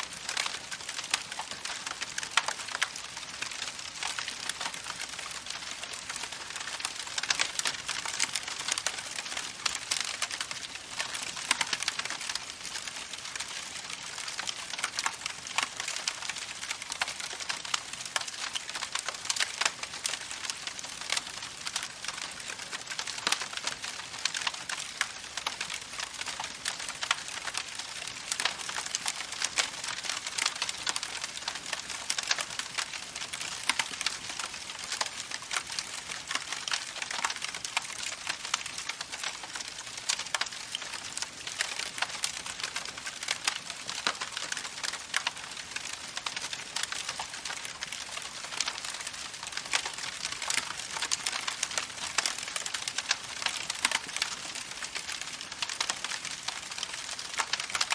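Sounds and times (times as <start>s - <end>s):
campfire crackling and popping: 0.1s - 57.9s.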